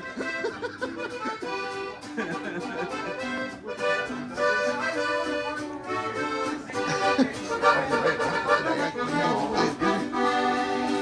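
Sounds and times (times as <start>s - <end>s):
accordion music with steady beat: 0.0s - 11.0s.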